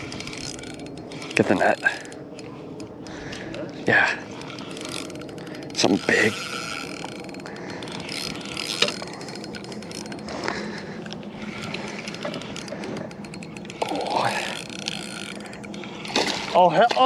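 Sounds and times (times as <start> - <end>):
fishing reel ratcheting click: 0.0 - 16.5.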